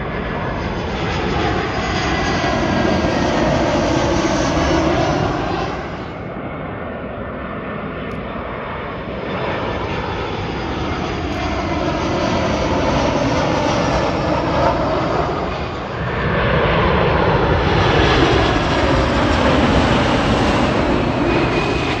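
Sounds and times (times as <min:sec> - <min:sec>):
jet airliners passing overhead: 0:00.0 - 0:22.0
loud four-engined jet: 0:00.0 - 0:22.0.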